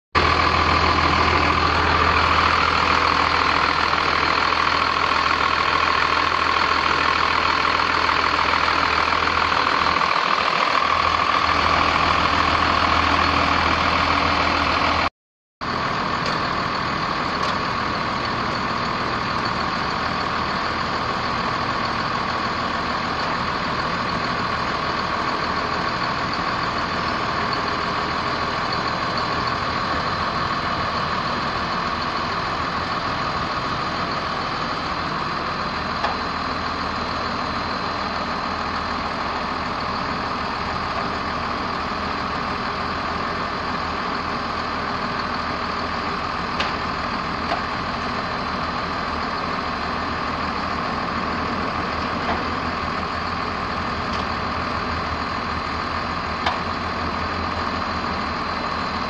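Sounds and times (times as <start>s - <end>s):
diesel engine running: 0.2s - 59.0s.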